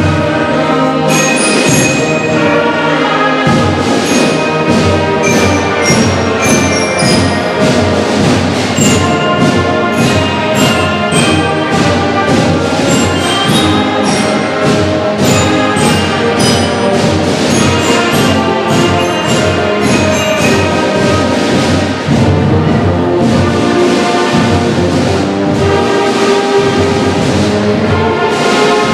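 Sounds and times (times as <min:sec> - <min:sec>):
brass instruments playing: 0:00.0 - 0:28.9
drums keeping a steady beat: 0:00.0 - 0:28.9.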